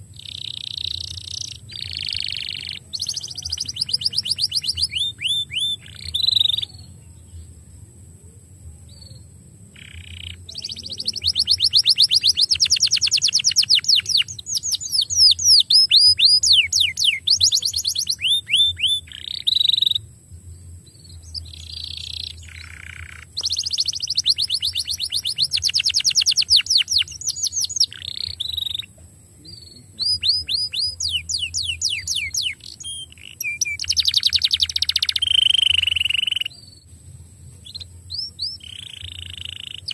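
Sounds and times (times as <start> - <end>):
canary singing trills: 0.0 - 7.5, 8.8 - 39.9.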